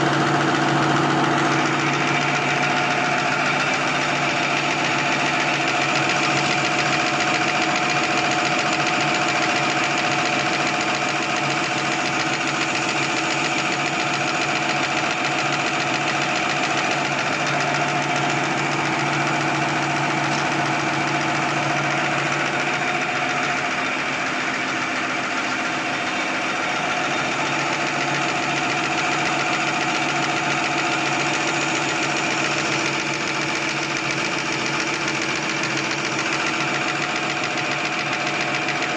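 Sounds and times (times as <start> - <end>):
folding machine running: 0.0 - 38.9.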